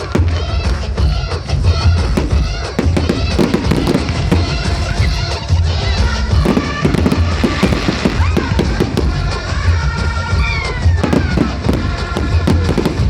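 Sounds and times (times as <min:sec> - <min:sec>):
fireworks bursting and crackling: 0:00.0 - 0:13.0
music playing: 0:00.0 - 0:13.0.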